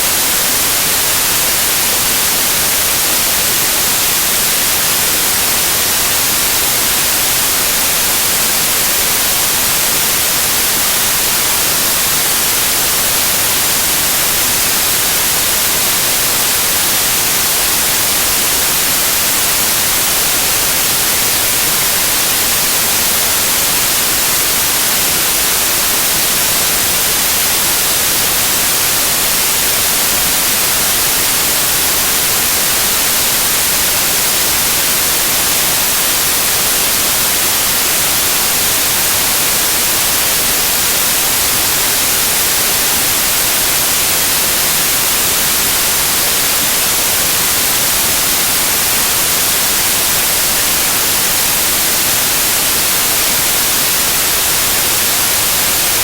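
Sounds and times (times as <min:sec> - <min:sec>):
loud white noise hiss: 0:00.0 - 0:56.0.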